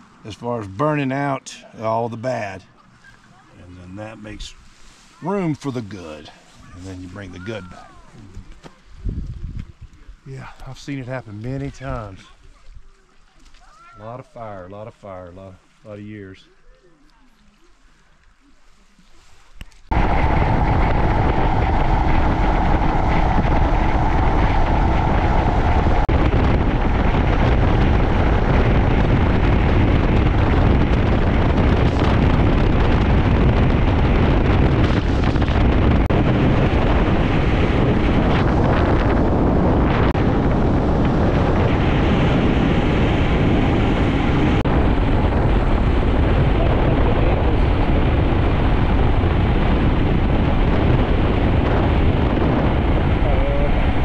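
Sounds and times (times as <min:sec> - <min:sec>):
road noise: 0:00.0 - 0:13.8, 0:19.8 - 0:54.0
wind rushing over microphone: 0:03.6 - 0:12.9, 0:19.9 - 0:54.0.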